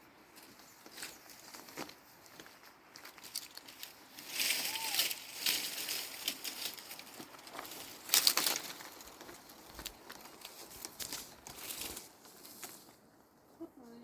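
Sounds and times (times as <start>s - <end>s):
crinkling scraping handling noises: 0.4s - 13.2s.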